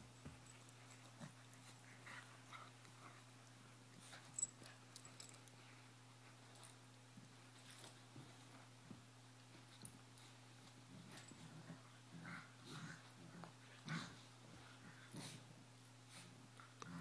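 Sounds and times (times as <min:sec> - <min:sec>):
dogs play-wrestling and scuffling: 0:00.1 - 0:17.0.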